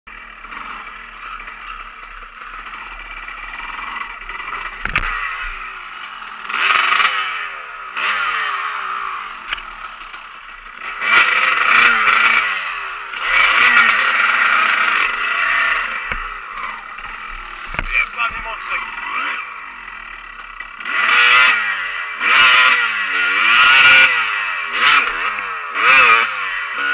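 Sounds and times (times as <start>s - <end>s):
dirt bike engine revving: 0.1s - 26.9s.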